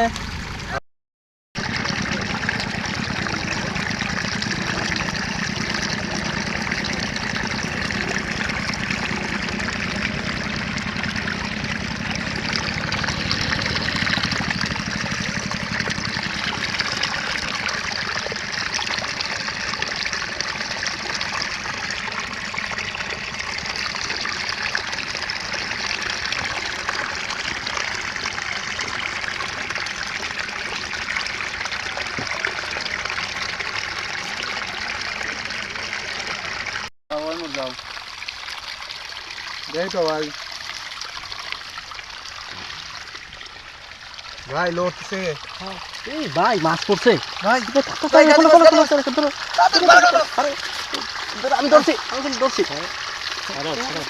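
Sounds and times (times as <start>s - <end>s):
water trickling and splashing: 1.6s - 54.0s.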